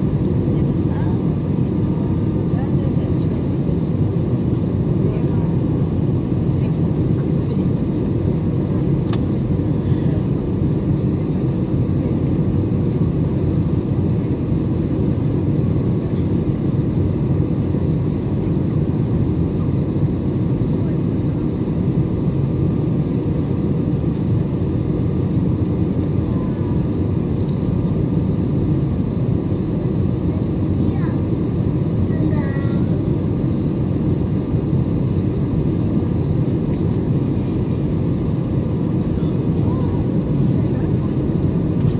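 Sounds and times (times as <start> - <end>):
jet airliner cabin rumble: 0.0 - 41.9.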